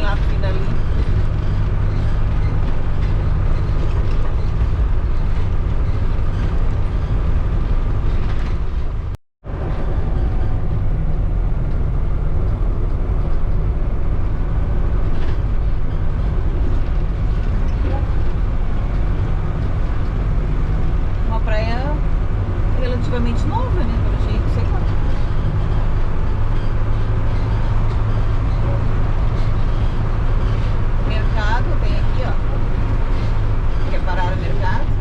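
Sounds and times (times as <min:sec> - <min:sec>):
engine and road noise from inside: 0:00.0 - 0:35.0.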